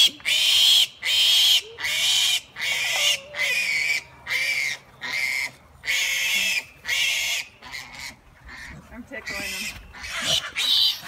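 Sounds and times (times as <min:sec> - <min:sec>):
pig squealing: 0:00.0 - 0:11.0.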